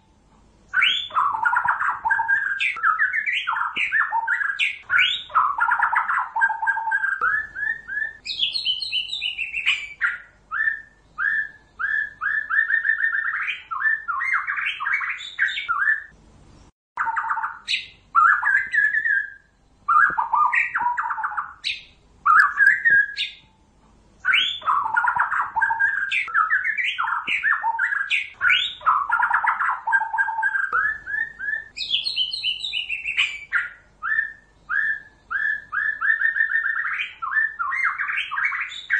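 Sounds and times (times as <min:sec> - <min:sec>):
bird singing whistles and trills: 0:00.7 - 0:16.2, 0:17.0 - 0:23.6, 0:24.2 - 0:38.9.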